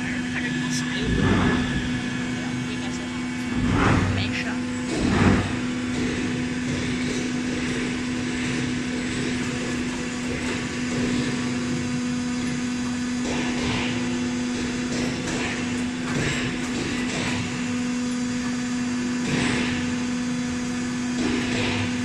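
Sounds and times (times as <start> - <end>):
hydraulic drive humming: 0.0 - 22.0.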